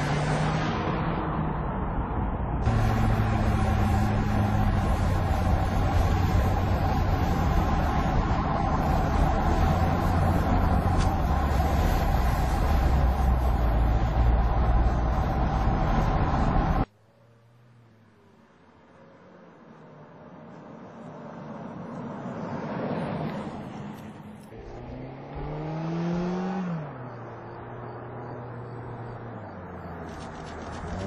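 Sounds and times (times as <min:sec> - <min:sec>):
car engine hum: 0:00.0 - 0:31.0.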